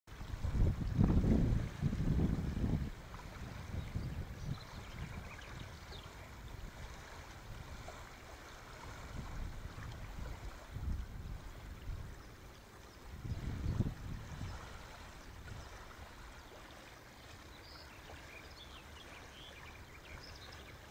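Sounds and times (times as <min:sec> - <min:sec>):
wind rumbling on microphone: 0:00.1 - 0:20.9.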